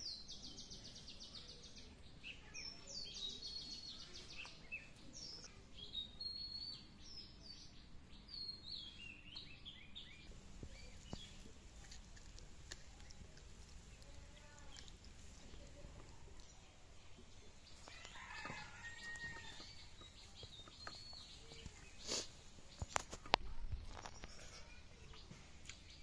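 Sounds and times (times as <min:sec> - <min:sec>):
small birds singing: 0:00.0 - 0:26.0.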